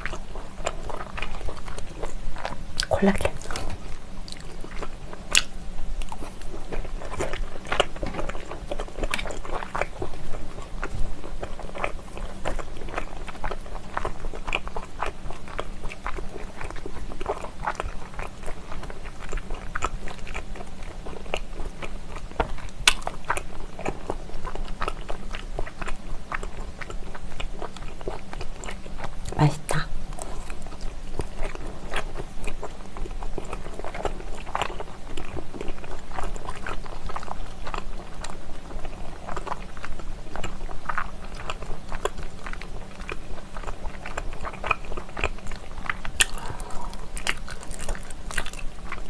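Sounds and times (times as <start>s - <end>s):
close chewing with mouth clicks: 0.0s - 49.0s.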